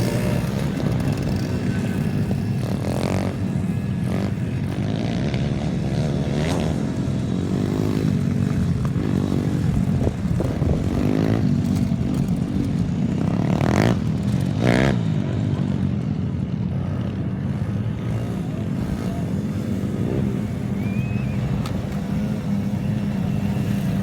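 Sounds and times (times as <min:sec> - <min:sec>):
small petrol engine revving: 0:00.0 - 0:15.4, 0:16.8 - 0:24.0.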